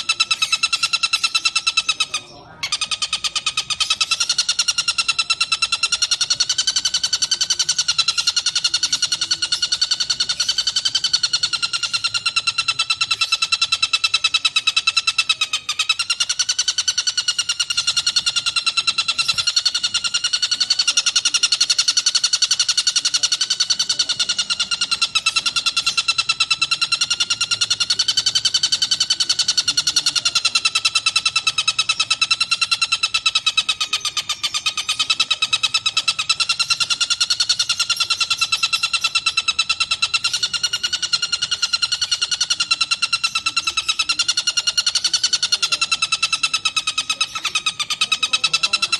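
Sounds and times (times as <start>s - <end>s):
kingfisher rattling trill: 0.0s - 48.9s.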